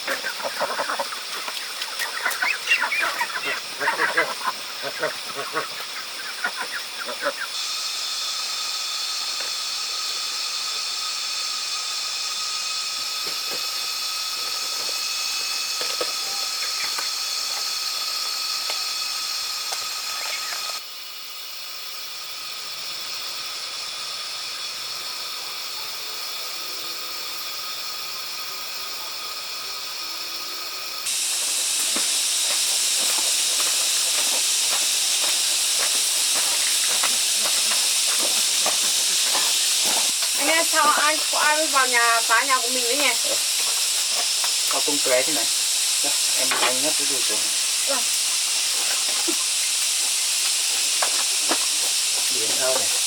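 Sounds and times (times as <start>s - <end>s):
outdoor hiss: 0.0s - 53.0s.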